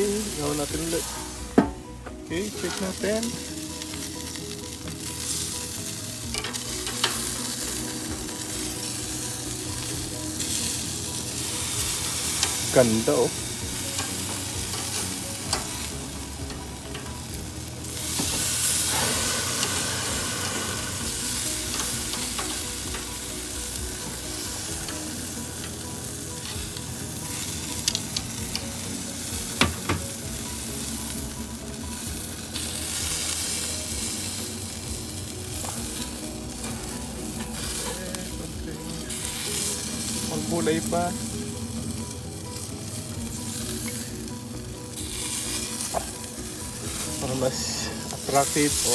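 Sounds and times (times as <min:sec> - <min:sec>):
chicken sizzling on a grill: 0:00.0 - 0:01.7, 0:02.3 - 0:48.9.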